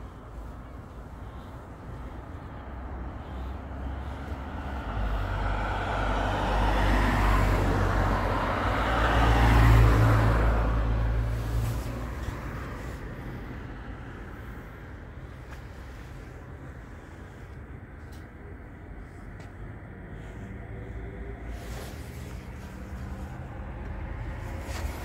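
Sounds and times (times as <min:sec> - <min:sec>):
vehicle passing by: 0:01.2 - 0:25.0.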